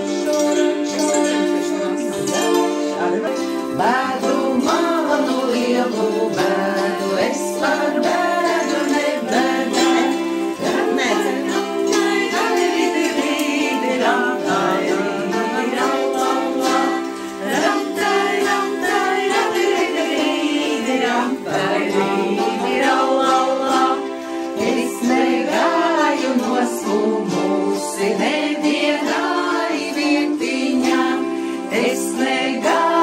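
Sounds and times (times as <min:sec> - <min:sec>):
plucked zither strings: 0:00.0 - 0:33.0
women singing a folk song: 0:03.4 - 0:33.0.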